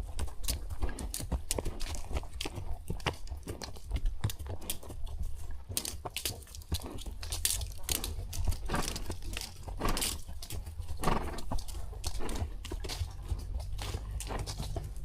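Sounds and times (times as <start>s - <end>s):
constant low rumble: 0.0s - 15.0s
horse hooves crunching on dirt: 0.0s - 15.0s.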